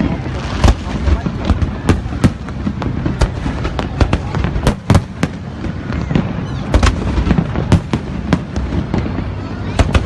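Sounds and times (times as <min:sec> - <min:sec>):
continuous low rumble: 0:00.0 - 0:10.0
fireworks bangs: 0:00.0 - 0:10.0.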